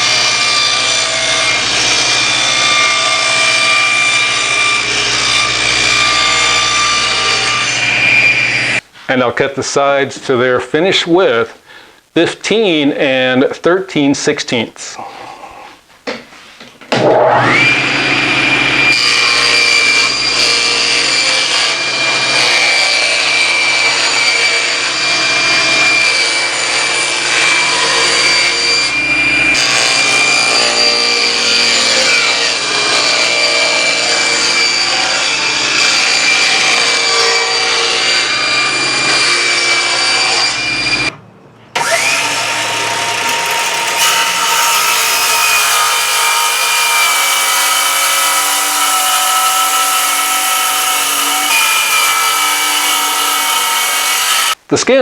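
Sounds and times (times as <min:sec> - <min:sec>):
table saw blade whine: 0:00.0 - 0:08.8, 0:17.0 - 0:54.6.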